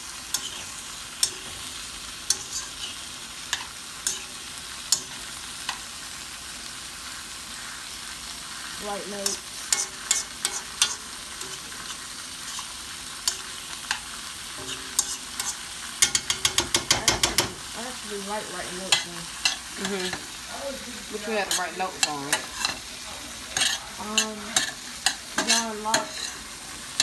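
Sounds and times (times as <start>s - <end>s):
food sizzling in a pan: 0.0s - 27.0s
metal spoon scraping a pan: 0.2s - 5.9s, 8.8s - 17.8s, 18.6s - 20.4s, 21.1s - 27.0s.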